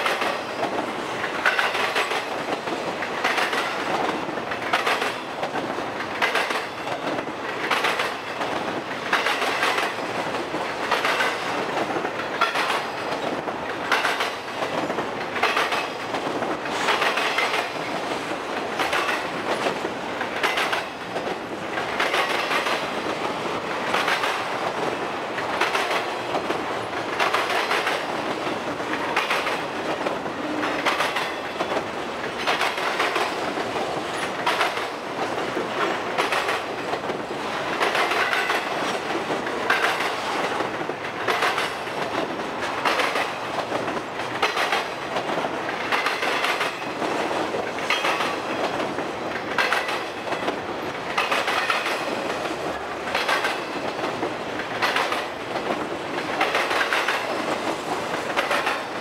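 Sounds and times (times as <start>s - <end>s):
freight train rumbling past: 0.0s - 59.0s
train wheels clacking: 0.0s - 59.0s.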